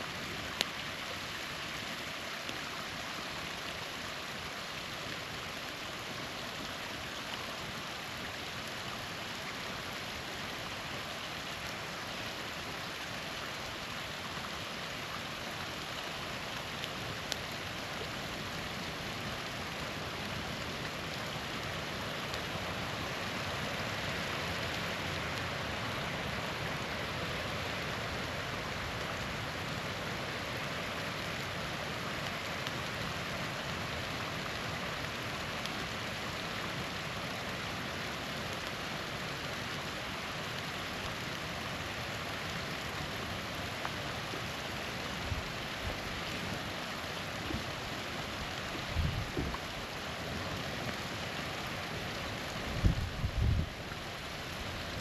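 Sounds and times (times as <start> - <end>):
campfire crackle: 0.0 - 55.0
small waterfall splashing: 0.0 - 55.0.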